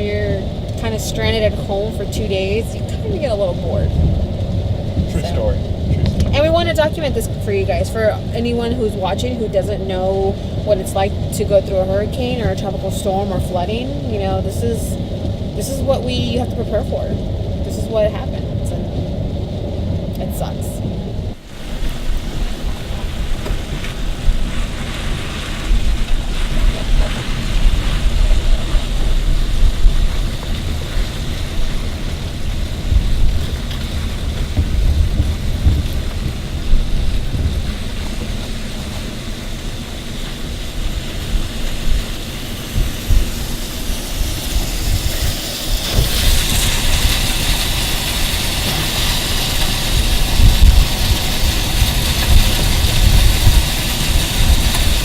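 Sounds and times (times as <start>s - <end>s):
car engine and road rumble: 0.0s - 55.0s
rain and water hiss: 0.0s - 55.0s.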